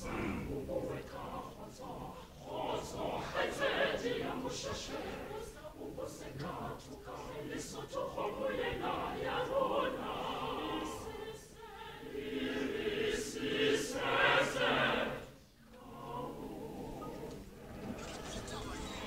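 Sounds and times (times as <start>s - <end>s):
mixed choir singing: 0.0s - 19.0s.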